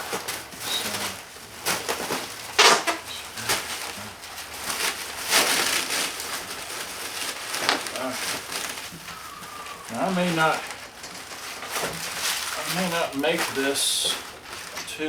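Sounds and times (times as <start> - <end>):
bubble wrap and plastic crinkling: 0.0 - 15.0.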